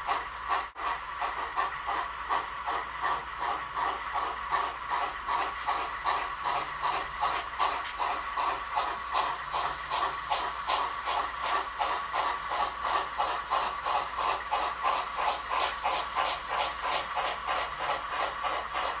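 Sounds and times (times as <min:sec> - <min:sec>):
model train running: 0:00.0 - 0:19.0.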